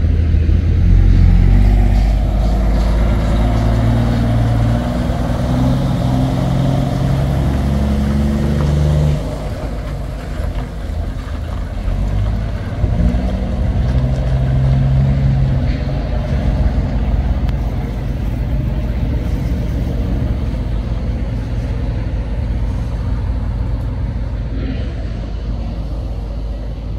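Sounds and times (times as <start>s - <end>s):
heavy diesel truck engine: 0.0s - 26.9s.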